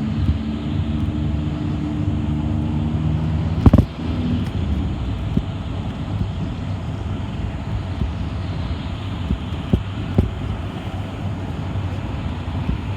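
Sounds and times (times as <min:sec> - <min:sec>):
bus engine hum and road rumble: 0:00.0 - 0:12.9.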